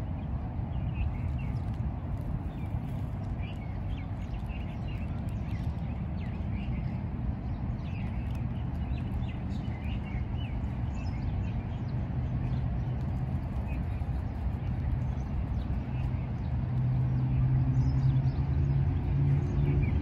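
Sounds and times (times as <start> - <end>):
steady low rumble: 0.0 - 20.0
small birds chirping: 0.1 - 20.0.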